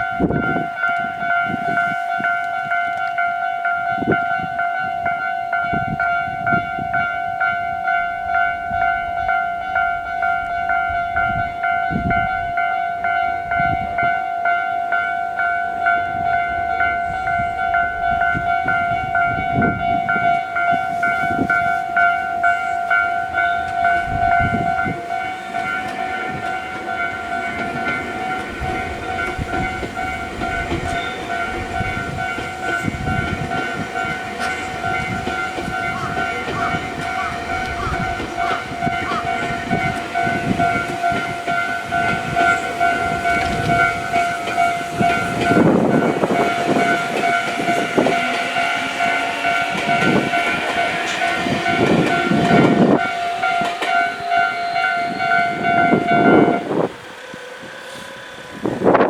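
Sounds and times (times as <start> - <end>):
level-crossing bell ringing: 0.0 - 57.0
train rumbling and wheel clatter: 0.0 - 59.0.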